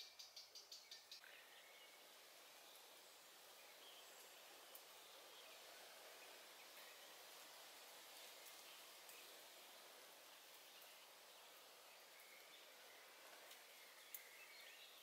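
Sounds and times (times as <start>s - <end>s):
faint woodland ambience: 0.0s - 15.0s.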